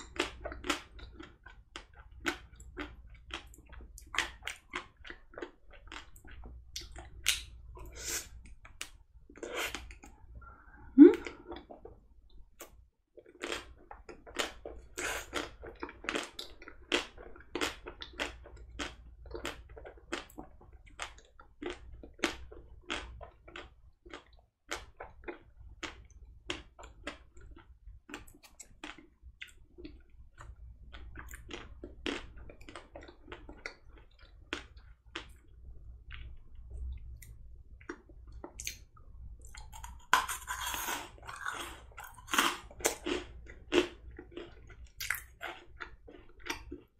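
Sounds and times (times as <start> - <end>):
chewing with wet mouth sounds: 0.0 - 46.9.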